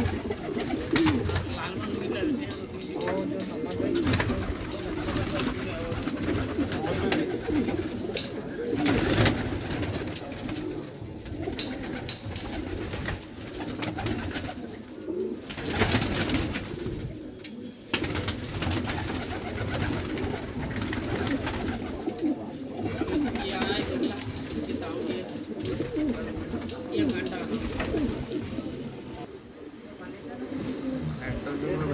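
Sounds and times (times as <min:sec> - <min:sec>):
wings flapping: 0:00.0 - 0:17.2, 0:17.9 - 0:29.0
pigeons cooing: 0:00.0 - 0:31.9.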